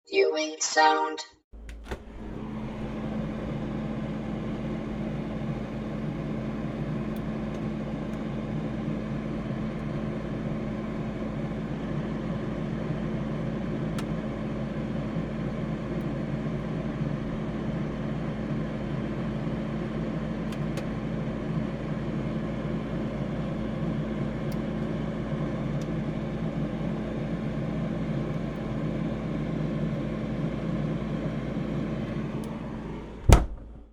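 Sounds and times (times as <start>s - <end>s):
freezer humming: 1.6s - 33.9s.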